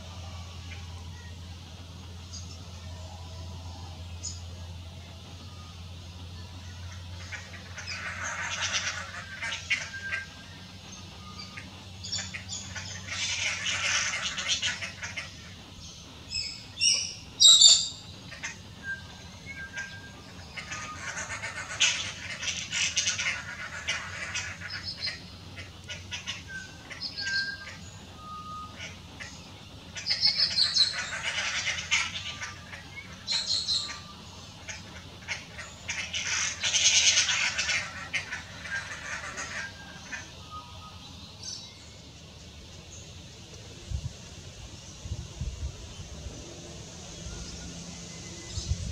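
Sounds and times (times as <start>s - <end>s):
birds chattering: 0.0s - 48.9s.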